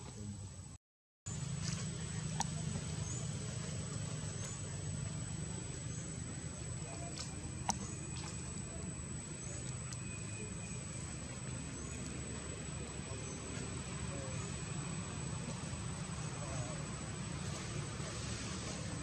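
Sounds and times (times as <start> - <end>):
low outdoor rumble: 0.0 - 19.0
faint high chirps: 1.6 - 19.0.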